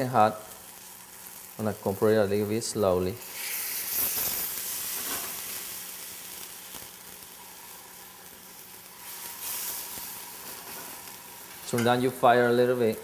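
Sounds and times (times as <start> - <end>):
stock sizzling in hot pan: 0.0 - 13.0.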